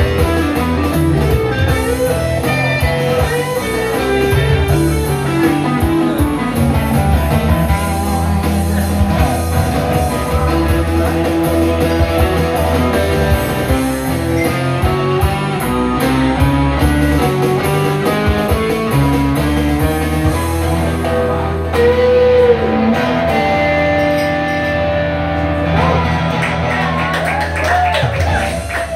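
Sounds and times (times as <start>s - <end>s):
amplified guitar playing: 0.0s - 27.5s
bass line: 0.0s - 28.9s.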